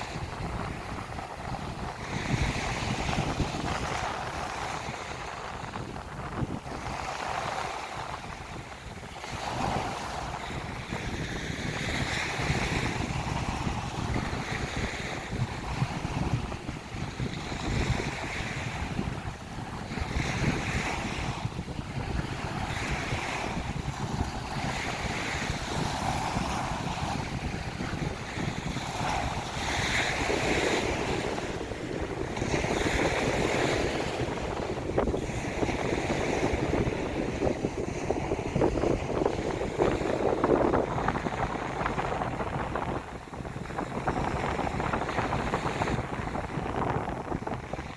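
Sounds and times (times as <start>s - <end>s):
small waves breaking on a beach: 0.0s - 47.9s
wind rumble on microphone: 0.0s - 47.9s.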